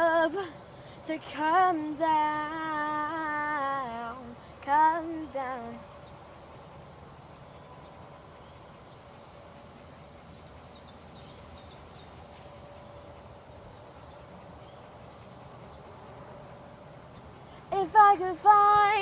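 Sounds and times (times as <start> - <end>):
faint high pulsing chirp: 0.0 - 19.0.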